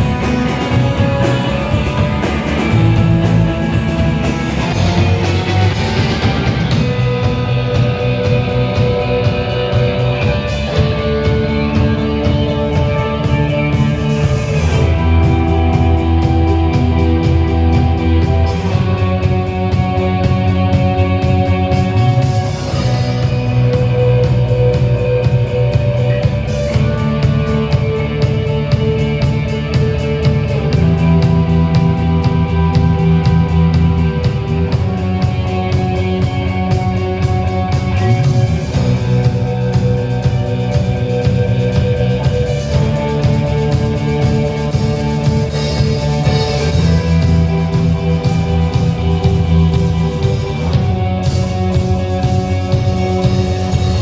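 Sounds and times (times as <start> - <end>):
bass: 0.0 - 54.0
drum kit with cymbals: 0.0 - 54.0
guitar sustained chords: 0.0 - 54.0.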